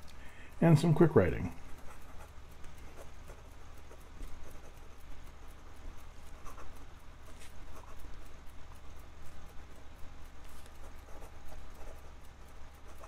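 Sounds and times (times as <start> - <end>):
pen nib scratching on paper: 1.6 - 13.0.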